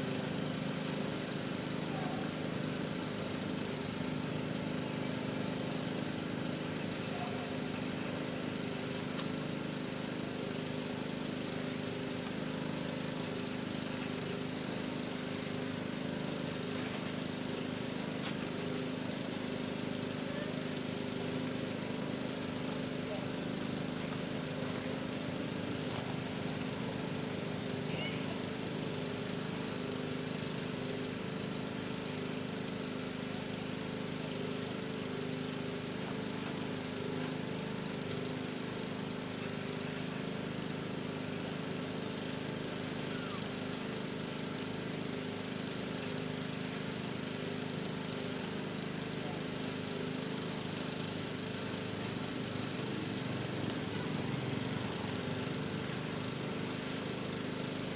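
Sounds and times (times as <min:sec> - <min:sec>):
small engine droning: 0:00.0 - 0:57.9.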